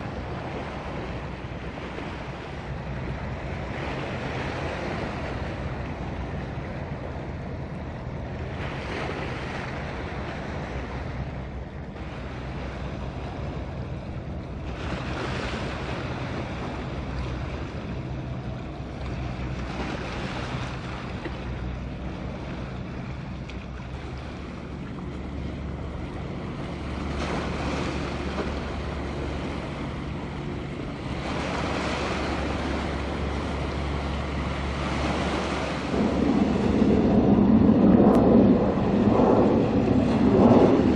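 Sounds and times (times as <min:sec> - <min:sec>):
low engine drone: 0:00.0 - 0:40.9
sea water washing: 0:00.0 - 0:40.9
wind buffeting microphone: 0:00.0 - 0:40.9.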